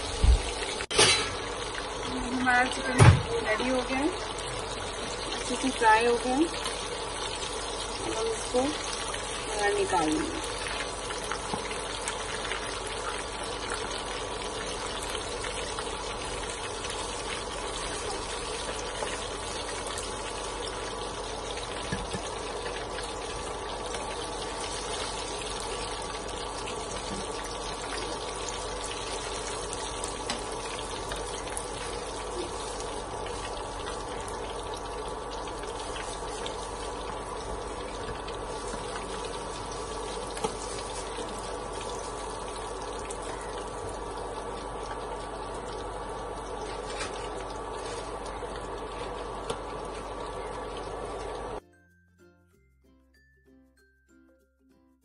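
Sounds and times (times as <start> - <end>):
chicken deep-frying in oil: 0.0 - 51.6.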